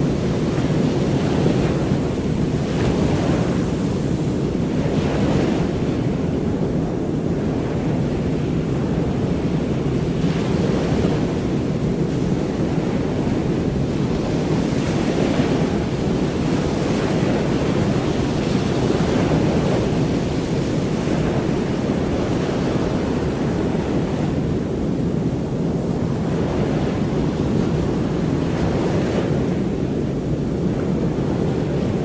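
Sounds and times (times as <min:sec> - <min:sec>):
ocean surf rushing: 0:00.0 - 0:32.0.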